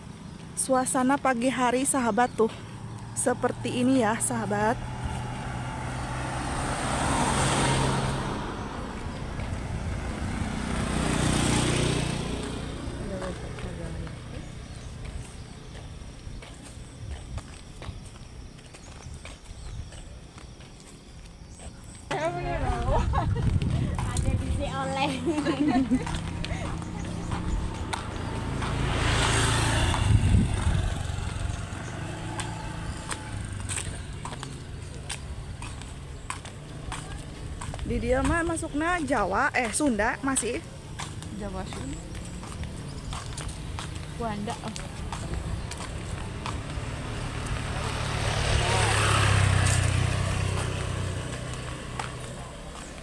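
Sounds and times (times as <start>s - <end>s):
road noise: 0.0s - 53.0s
vehicles passing: 0.0s - 53.0s.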